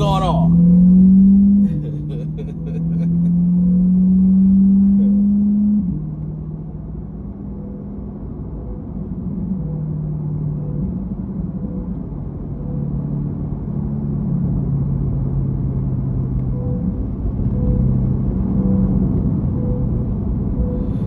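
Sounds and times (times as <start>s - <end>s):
road rumble: 0.0s - 12.6s, 13.3s - 21.0s.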